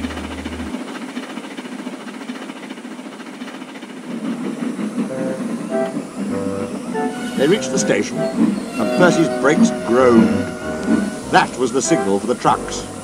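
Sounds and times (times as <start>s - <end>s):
steam locomotive running: 0.0s - 13.0s
wagons rolling along rails: 0.0s - 13.0s.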